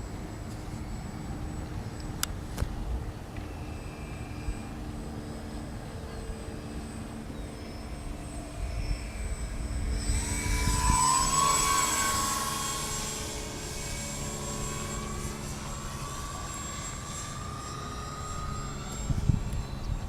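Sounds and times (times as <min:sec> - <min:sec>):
model plane motors whining: 0:00.0 - 0:20.0.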